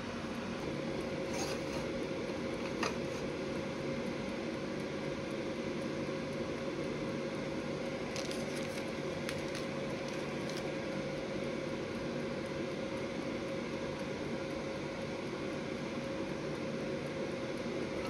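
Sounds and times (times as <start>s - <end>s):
appliance fan humming: 0.0s - 18.0s.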